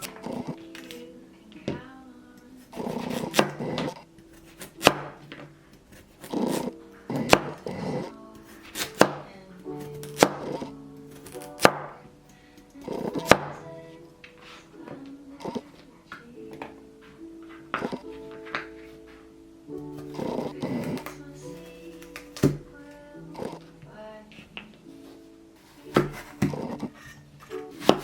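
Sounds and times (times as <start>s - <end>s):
background music: 0.0s - 28.0s.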